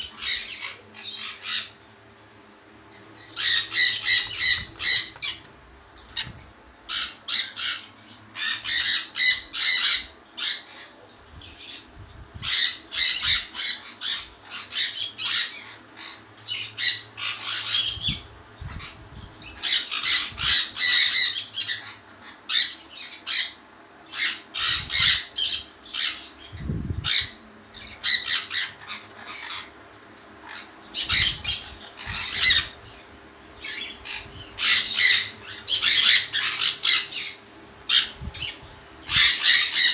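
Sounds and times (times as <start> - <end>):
pet birds squawking and chirping: 0.0 - 39.9.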